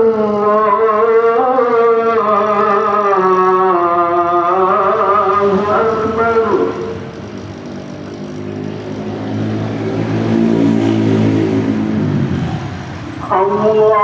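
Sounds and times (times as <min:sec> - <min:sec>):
compressor motor humming: 0:00.0 - 0:13.8.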